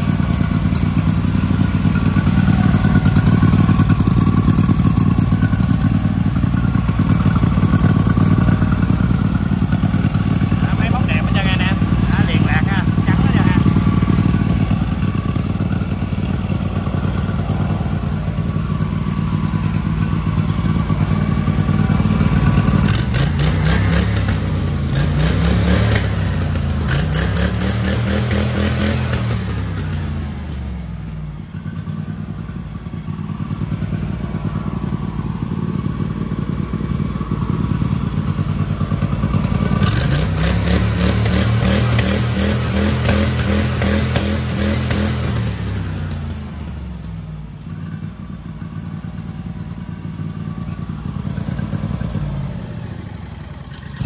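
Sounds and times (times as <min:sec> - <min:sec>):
engine revving and idling: 0:00.0 - 0:54.0.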